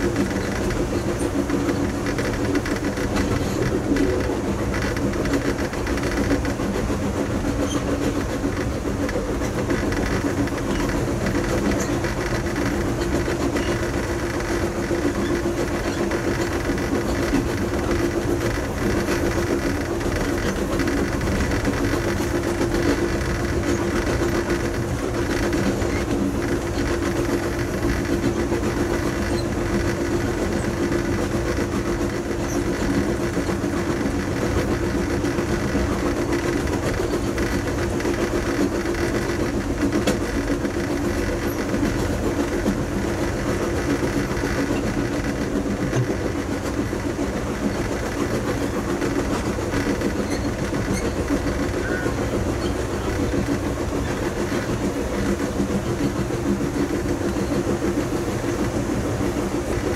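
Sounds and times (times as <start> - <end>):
constant low hum: 0.0 - 59.9
train wheels on rails: 0.0 - 59.9.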